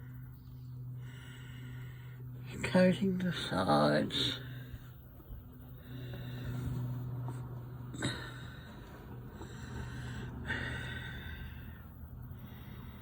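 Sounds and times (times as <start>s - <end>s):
person breathing: 0.0s - 2.4s, 4.4s - 13.0s
steady low hum: 0.0s - 13.0s.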